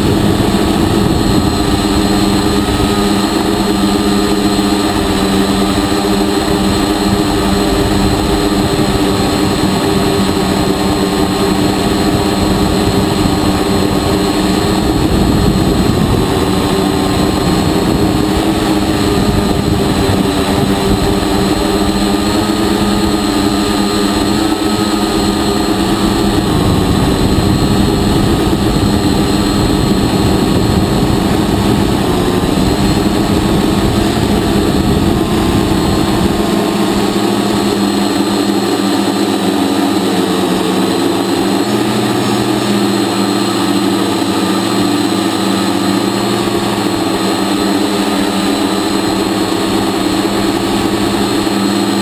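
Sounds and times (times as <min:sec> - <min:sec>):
drone propellers whirring: 0:00.0 - 0:52.0.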